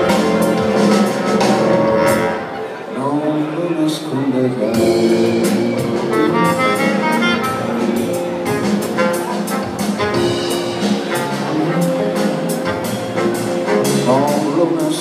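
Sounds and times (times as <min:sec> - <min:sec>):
drum kit: 0:00.0 - 0:02.6, 0:04.6 - 0:15.0
electric guitar: 0:00.0 - 0:02.7, 0:04.6 - 0:15.0
horn melody: 0:00.0 - 0:02.8, 0:04.7 - 0:15.0.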